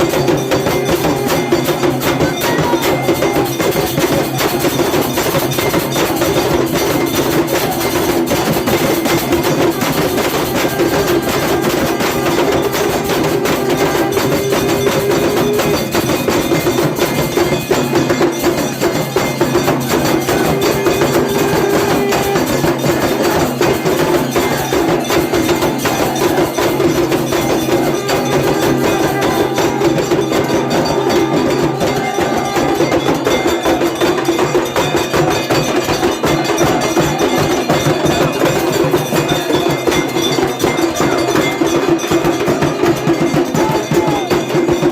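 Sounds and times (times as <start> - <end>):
bells and percussion struck rapidly: 0.0 - 44.9.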